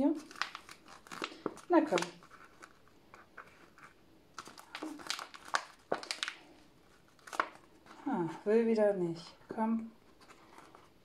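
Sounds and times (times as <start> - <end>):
plastic pot crinkling: 0.0 - 8.4, 10.1 - 11.0.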